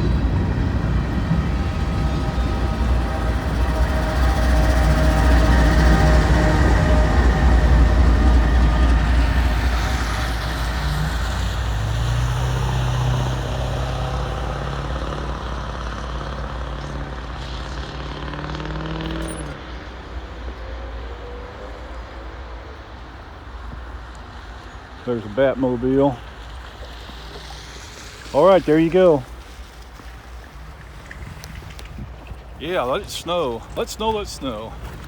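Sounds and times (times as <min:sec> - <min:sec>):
freight train rumbling past: 0:00.0 - 0:35.0
steady engine hum: 0:00.0 - 0:35.0.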